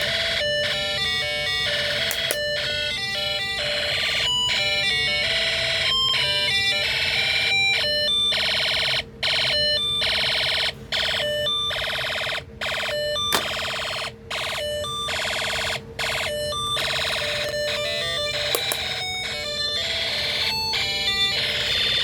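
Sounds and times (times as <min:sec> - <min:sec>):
electronic siren-like warble: 0:00.0 - 0:22.0.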